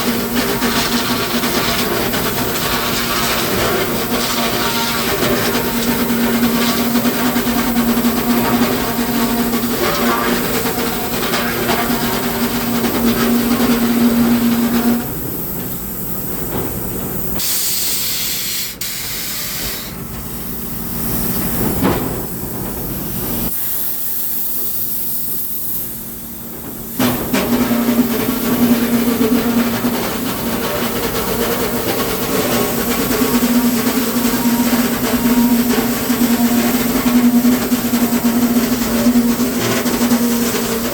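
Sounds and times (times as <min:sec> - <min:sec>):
sawmill machinery hum and hiss: 0:00.0 - 0:40.9.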